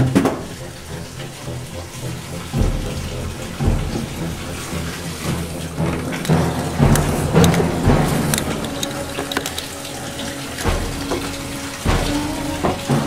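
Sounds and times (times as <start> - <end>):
low music notes: 0.0 - 13.0
rush of running water: 0.0 - 13.0.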